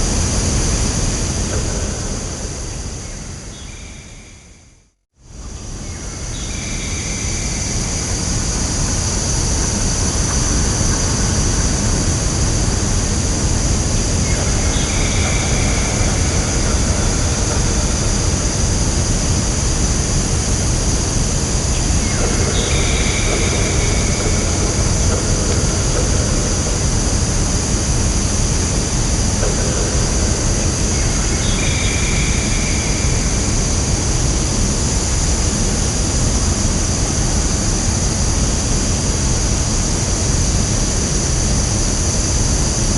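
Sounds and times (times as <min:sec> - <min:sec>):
steady rushing noise: 0:08.5 - 0:42.9.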